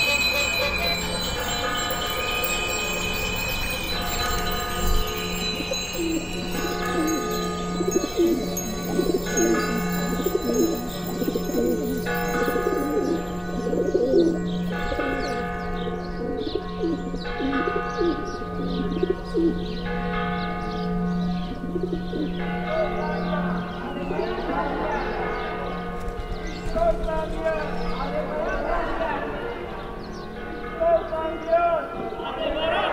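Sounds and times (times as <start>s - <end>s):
church bell tolling: 0.0s - 32.5s
birds chirping: 0.0s - 32.9s.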